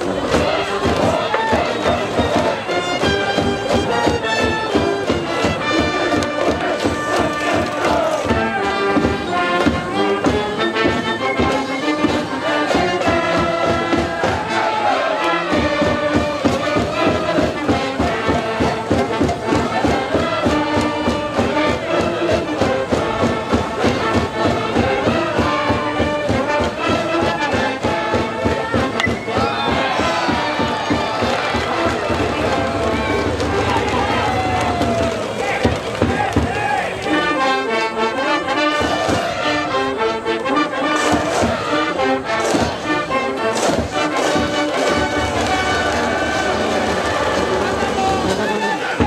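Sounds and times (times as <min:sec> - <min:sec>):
steady drum beat: 0:00.0 - 0:37.1, 0:43.6 - 0:49.0
brass band playing: 0:00.0 - 0:49.0
crowd voices cheering: 0:00.0 - 0:49.0.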